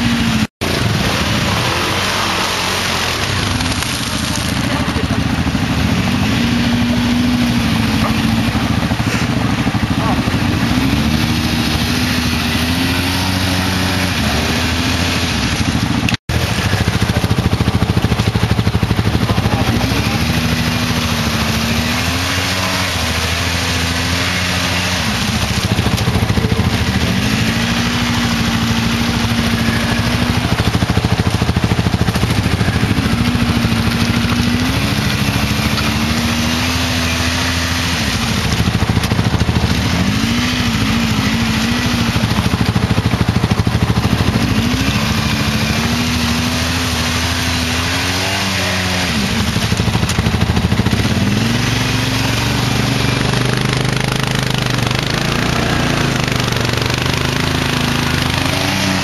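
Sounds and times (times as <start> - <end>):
quad bike engines revving: 0.0 - 59.0.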